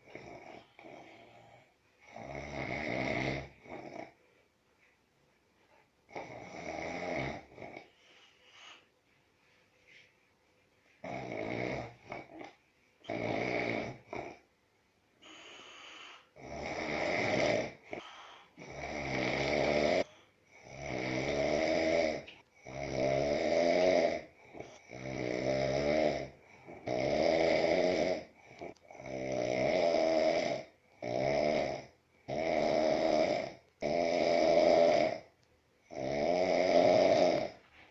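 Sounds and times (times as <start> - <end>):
man snoring: 0.0 - 4.2, 6.1 - 7.9, 11.0 - 14.4, 15.2 - 37.6.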